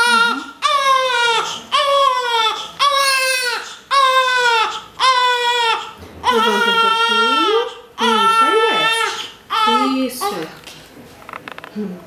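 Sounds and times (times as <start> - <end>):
newborn baby crying: 0.0 - 10.6.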